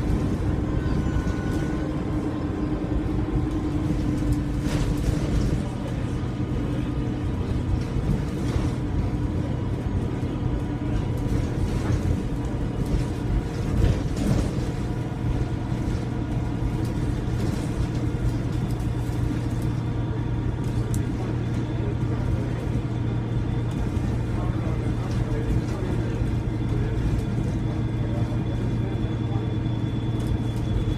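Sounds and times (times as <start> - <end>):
bus engine running: 0.0 - 30.9.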